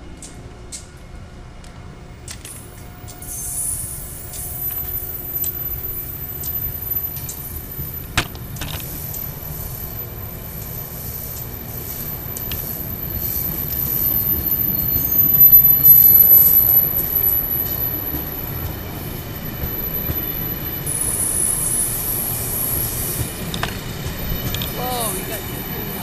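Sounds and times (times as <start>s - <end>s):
train wheels rushing on rails: 0.0s - 26.0s
high wheel squeal: 2.8s - 8.0s, 8.8s - 26.0s.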